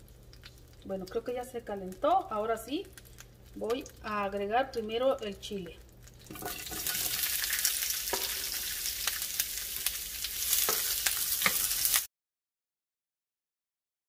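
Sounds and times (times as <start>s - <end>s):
peppers sizzling in hot oil: 0.0s - 12.1s.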